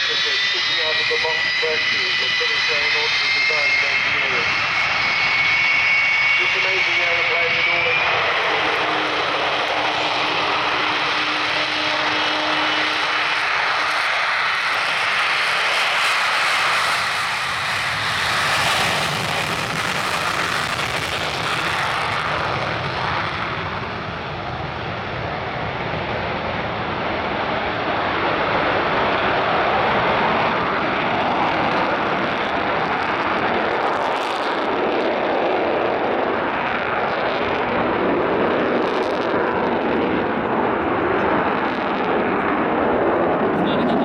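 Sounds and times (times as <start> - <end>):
loud jet roar: 0.0 - 44.0.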